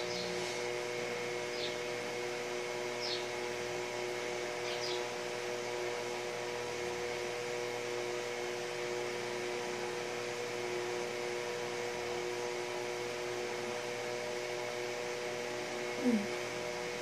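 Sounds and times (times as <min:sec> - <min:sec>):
fan mechanical hum: 0:00.0 - 0:17.0.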